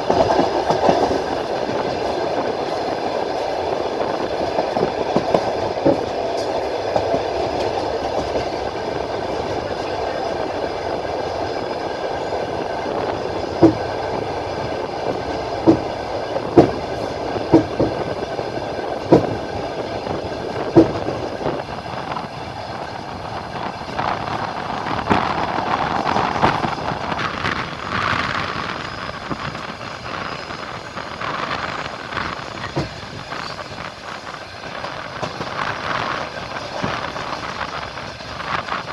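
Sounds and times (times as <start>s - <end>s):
train wheels rumbling on track: 0.0s - 38.9s
wheels clacking over rail joints: 0.0s - 38.9s.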